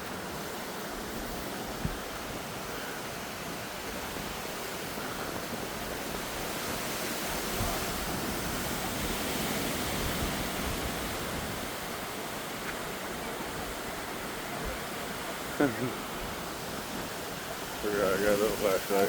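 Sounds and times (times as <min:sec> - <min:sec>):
storm wind rushing: 0:00.0 - 0:19.0.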